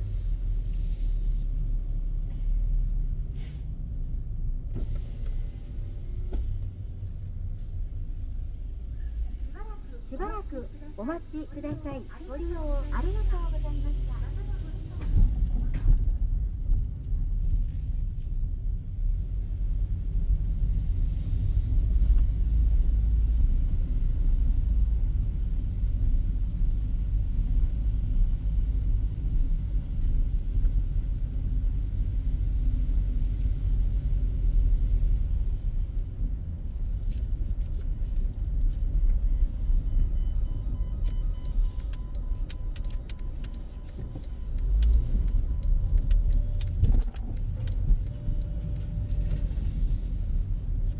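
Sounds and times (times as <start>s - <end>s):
car engine and tyre rumble: 0.0s - 50.9s.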